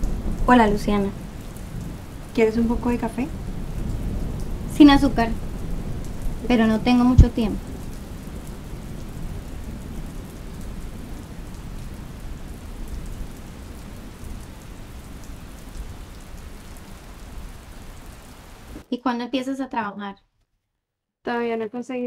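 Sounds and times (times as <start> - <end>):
rain pattering: 0.0 - 18.9.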